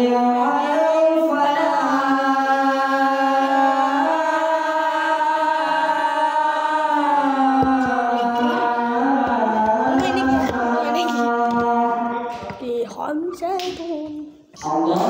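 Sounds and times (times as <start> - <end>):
man chanting call to prayer: 0.0 - 13.2, 14.5 - 15.0.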